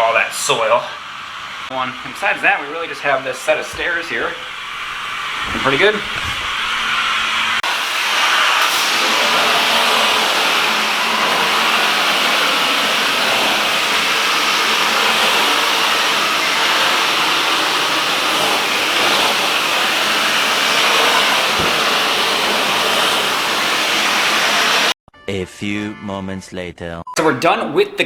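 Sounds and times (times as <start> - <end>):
steam cleaner rushing hiss: 0.0 - 25.0.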